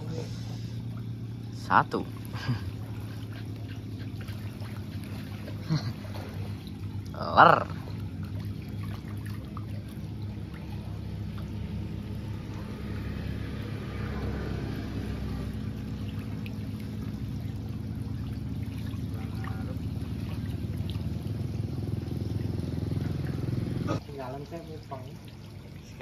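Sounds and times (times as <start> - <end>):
low hum: 0.0 - 24.0
water pouring and trickling: 0.0 - 26.0.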